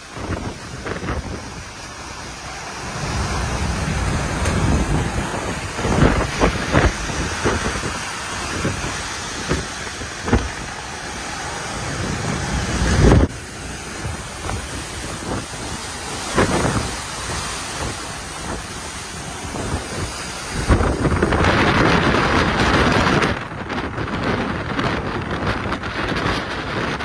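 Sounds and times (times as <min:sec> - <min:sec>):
strong wind buffeting microphone: 0:00.0 - 0:27.0.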